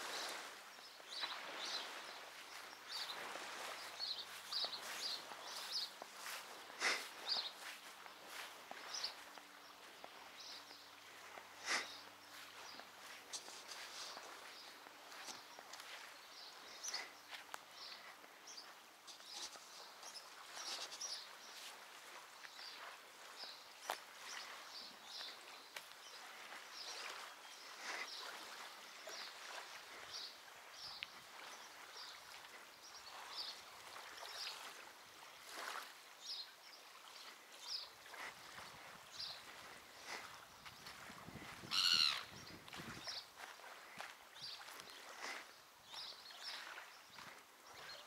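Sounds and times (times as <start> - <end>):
soft even hiss: 0.0 - 47.6
small birds chirping: 0.0 - 48.0.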